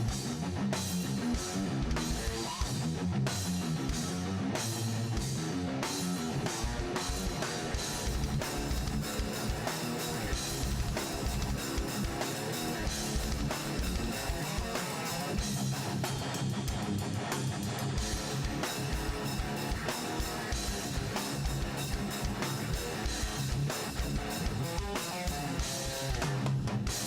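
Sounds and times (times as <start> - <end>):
drum kit beat: 0.0 - 27.0
strummed guitar: 0.0 - 27.0.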